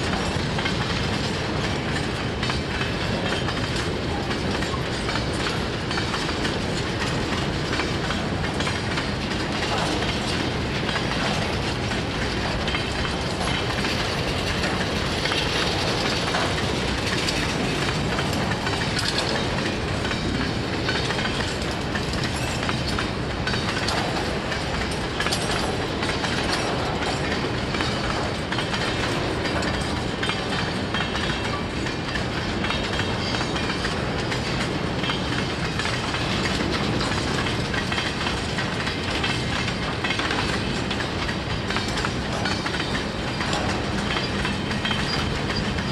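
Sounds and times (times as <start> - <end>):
freight train cars rolling: 0.0 - 45.9
wheels clicking over rail joints: 0.0 - 45.9.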